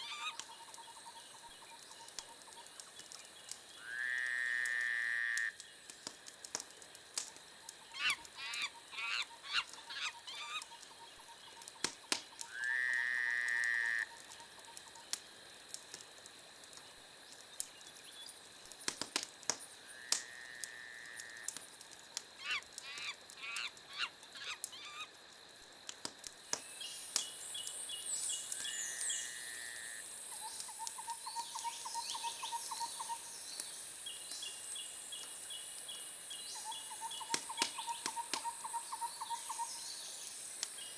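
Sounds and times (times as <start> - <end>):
wood fire crackling: 0.1 - 36.2, 37.2 - 40.9.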